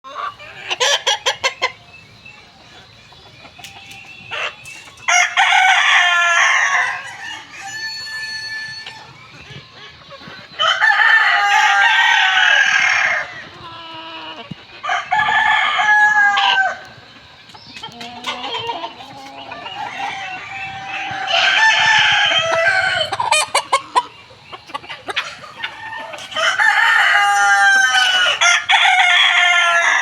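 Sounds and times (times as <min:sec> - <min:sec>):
hens clucking: 0:00.0 - 0:30.0
roosters crowing: 0:03.8 - 0:30.0.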